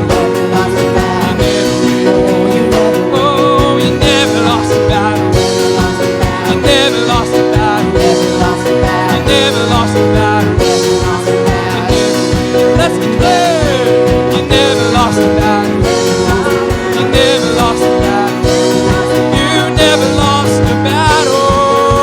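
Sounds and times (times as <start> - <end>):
steady drum beat: 0.0 - 22.0
worship band music: 0.0 - 22.0.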